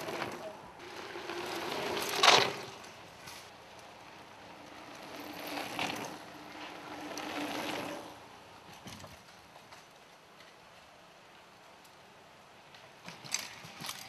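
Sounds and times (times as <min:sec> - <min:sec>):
mountain bike passing on dirt: 0:00.0 - 0:11.6.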